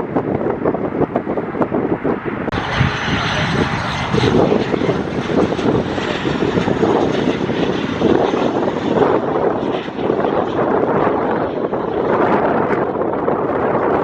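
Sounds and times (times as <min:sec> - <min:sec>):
aircraft engines droning: 0:00.0 - 0:14.0.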